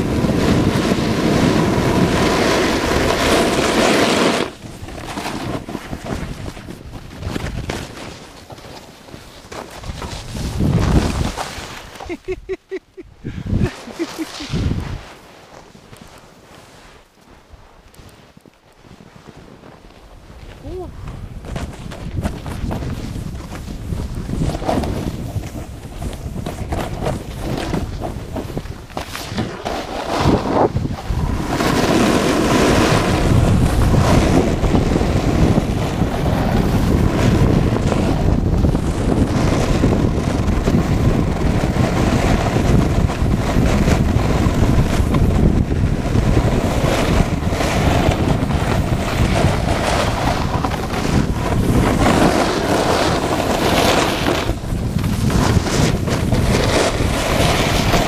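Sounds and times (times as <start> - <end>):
wind rushing over microphone: 0.0 - 8.0, 9.8 - 15.2, 20.2 - 58.0
snowboard scraping over snow: 0.0 - 12.6, 13.3 - 58.0.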